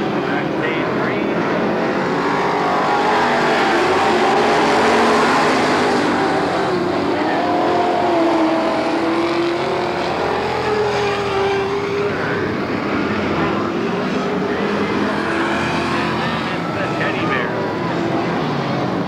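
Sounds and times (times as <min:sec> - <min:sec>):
stock car engines racing: 0:00.0 - 0:19.0.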